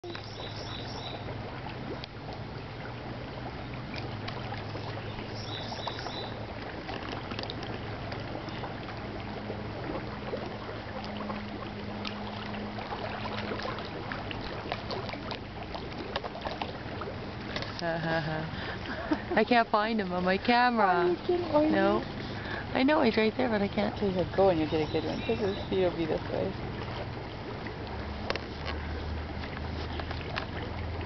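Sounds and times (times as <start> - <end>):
steady low hum: 0.0 - 31.0
water lapping and splashing: 0.0 - 31.0.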